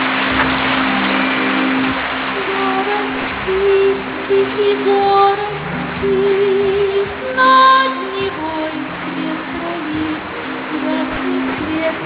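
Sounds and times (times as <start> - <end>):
slow music with held notes: 0.0 - 12.0.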